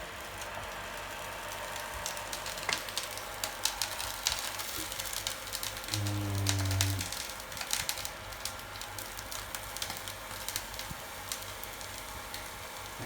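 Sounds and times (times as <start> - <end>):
oil crackling in pan: 0.0 - 13.0.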